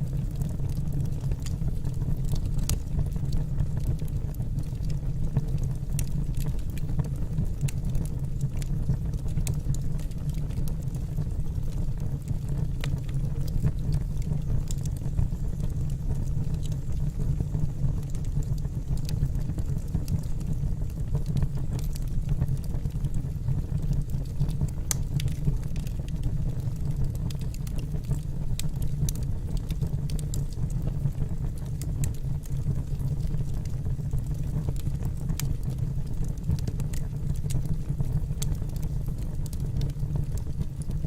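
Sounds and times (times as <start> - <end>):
low rumble of fire: 0.0 - 41.0
wood crackling and popping: 0.0 - 41.0.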